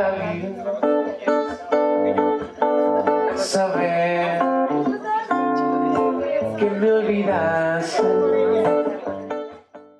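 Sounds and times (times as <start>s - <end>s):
acoustic guitar strumming: 0.0s - 9.9s.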